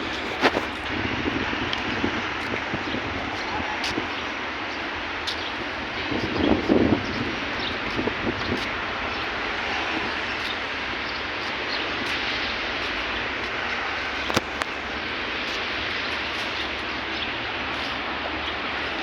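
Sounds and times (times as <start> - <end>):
steady vehicle noise: 0.0 - 19.0.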